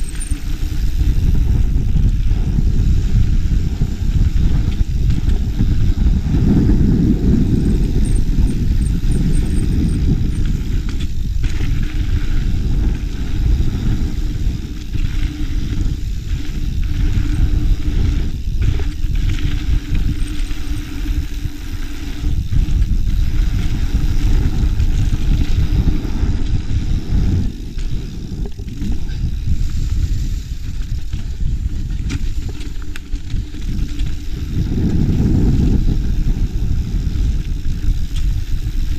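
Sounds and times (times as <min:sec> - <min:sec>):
tyres on trail: 0:00.0 - 0:38.9
wind rumble: 0:00.0 - 0:38.9.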